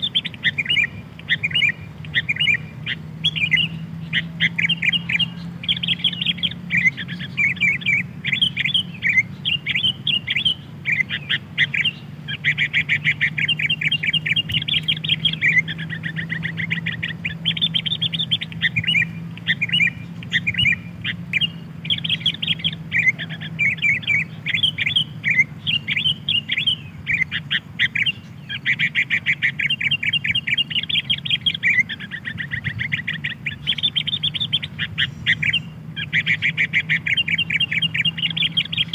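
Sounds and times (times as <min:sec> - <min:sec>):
bulbuls chattering and singing: 0:00.0 - 0:38.9
steady low hum: 0:00.0 - 0:38.9.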